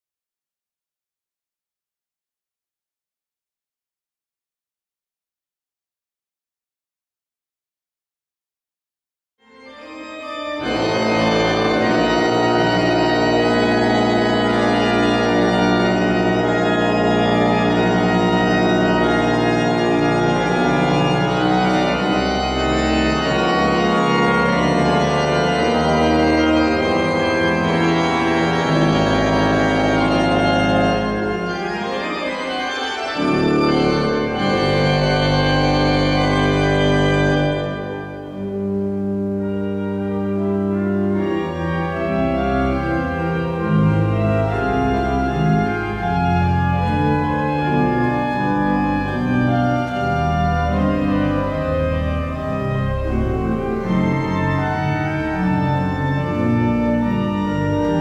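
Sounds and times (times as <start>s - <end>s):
pipe organ playing chords: 9.4s - 58.0s.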